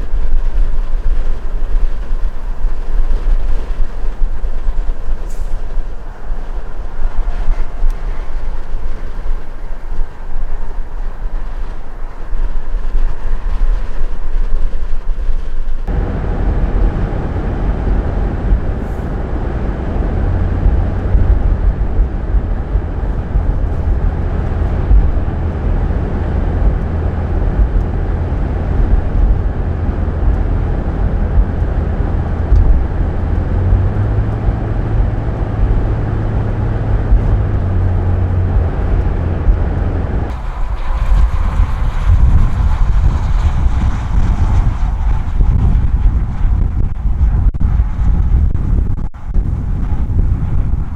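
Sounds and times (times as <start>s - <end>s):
road and wind noise: 0.0s - 50.9s
vehicle rumble on highway: 0.0s - 50.9s.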